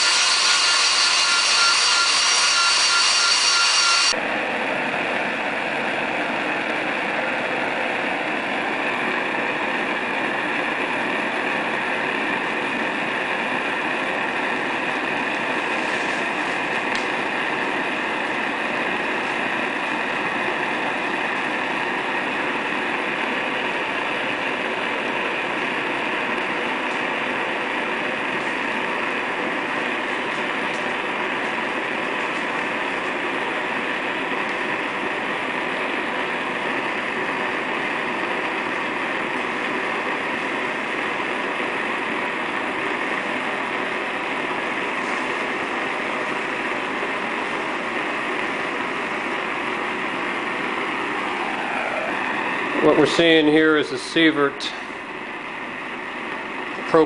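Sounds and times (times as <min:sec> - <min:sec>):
gas burner hissing: 0:00.0 - 0:04.2, 0:05.0 - 0:57.0.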